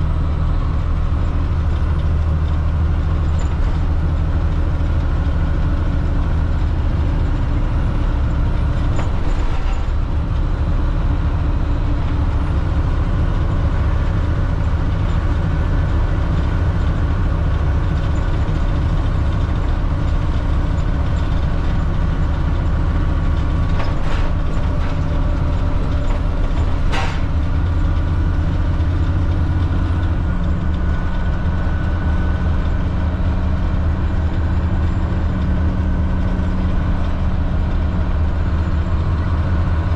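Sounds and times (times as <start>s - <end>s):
diesel bus engine humming: 0.0s - 39.9s.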